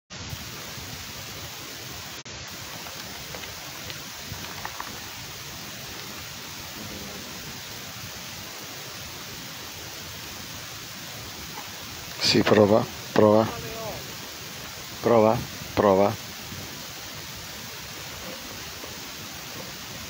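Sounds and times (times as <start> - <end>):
wind: 0.1 - 20.0
sea waves rushing: 0.7 - 20.0.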